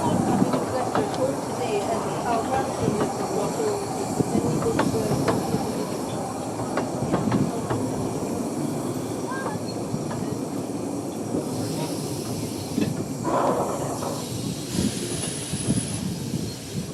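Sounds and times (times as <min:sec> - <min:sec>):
wheels clicking over rail joints: 0:00.0 - 0:10.6, 0:11.2 - 0:15.8
train rumbling slowly: 0:00.0 - 0:16.9.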